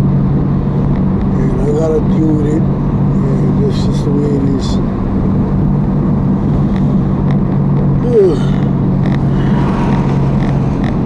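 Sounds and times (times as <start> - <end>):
motor vehicle engine hum: 0.0 - 11.0.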